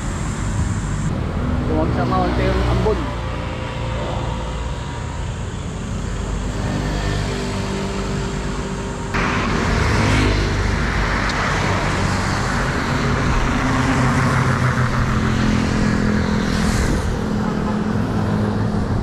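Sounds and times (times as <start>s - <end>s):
road noise rushing: 0.0s - 19.0s.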